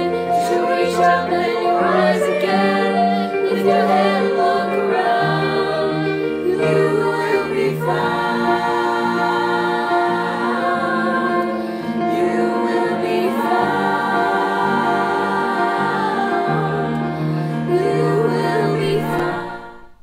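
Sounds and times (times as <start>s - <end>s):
choir singing: 0.0s - 20.0s.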